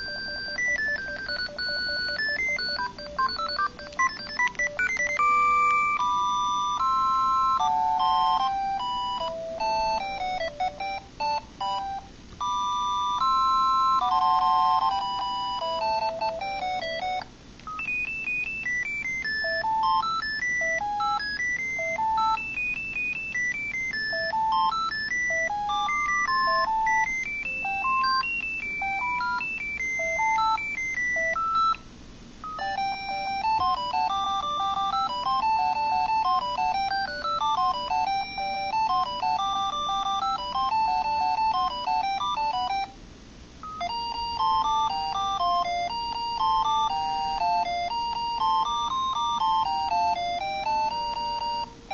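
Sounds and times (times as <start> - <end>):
cell phone jingle ringtones: 0.0 - 31.8, 32.4 - 43.0, 43.6 - 51.7.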